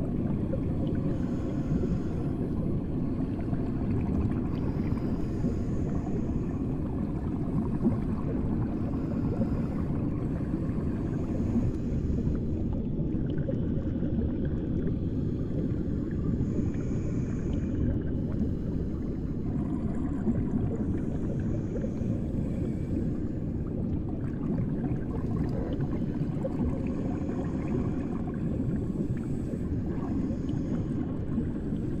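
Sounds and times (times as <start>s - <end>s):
underwater low rumble: 0.0s - 32.0s.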